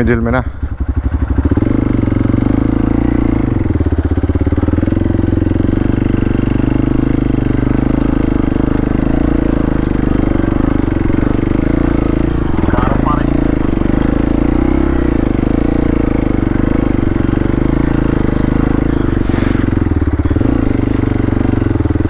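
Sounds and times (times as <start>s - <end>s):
motorcycle engine revving in mud: 0.8s - 22.0s.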